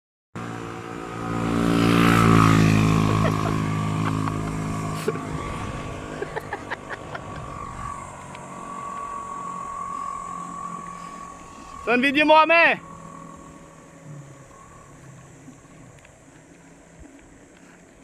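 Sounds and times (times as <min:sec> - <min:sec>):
motorcycle engine running: 0:00.4 - 0:18.0.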